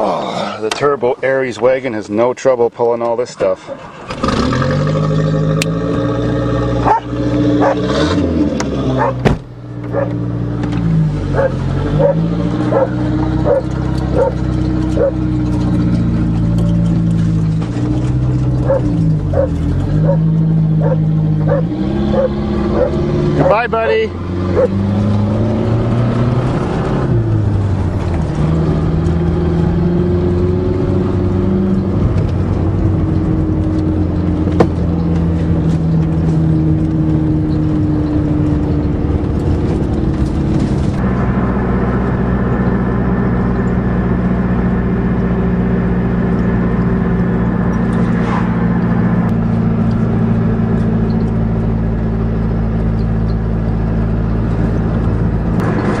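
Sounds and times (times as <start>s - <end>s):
car engine and road drone: 0.0s - 56.0s.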